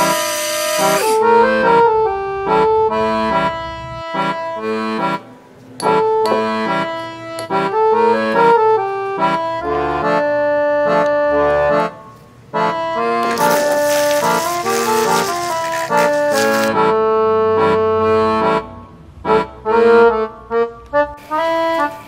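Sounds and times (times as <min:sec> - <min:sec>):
light instrumental melody: 0:00.0 - 0:22.0.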